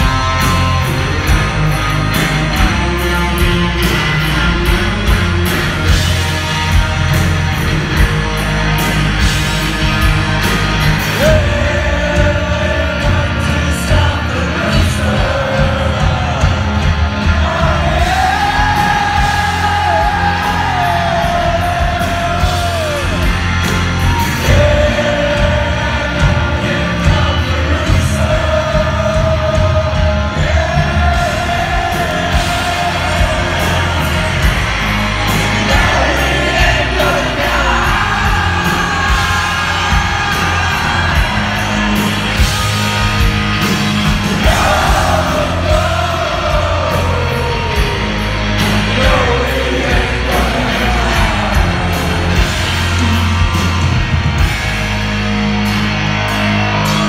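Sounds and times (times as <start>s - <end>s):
bent guitar melody line: 0.0s - 57.0s
live rock band playing: 0.0s - 57.0s.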